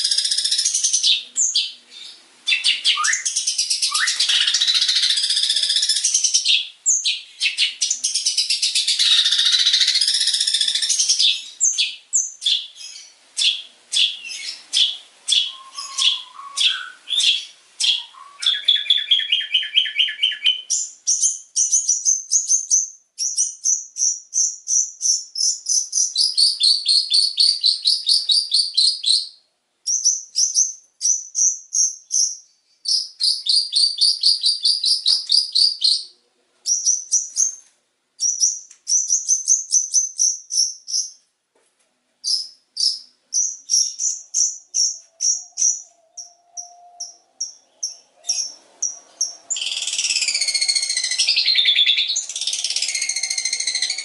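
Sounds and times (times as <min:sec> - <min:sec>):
songbird chattering song: 0:00.0 - 0:37.6, 0:38.2 - 0:41.2, 0:42.2 - 0:54.0.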